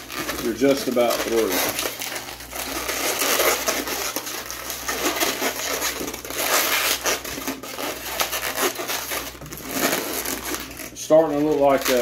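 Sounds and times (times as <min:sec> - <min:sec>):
balloons squeaking and rubbing: 0:00.0 - 0:12.0.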